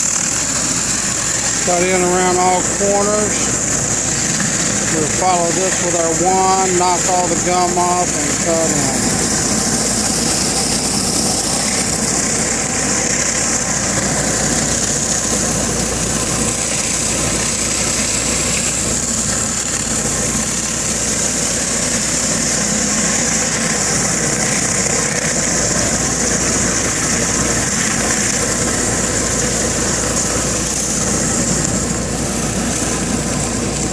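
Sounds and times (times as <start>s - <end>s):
machine engine drone: 0.0s - 33.9s
pressure washer spray hissing: 0.0s - 33.9s.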